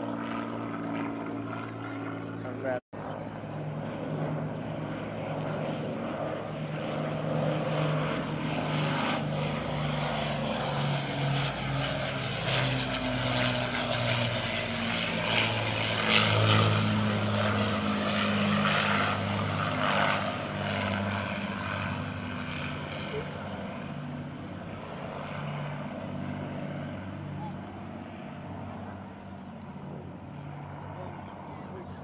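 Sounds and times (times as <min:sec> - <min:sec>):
propeller aircraft engines drone: 0:00.0 - 0:32.0.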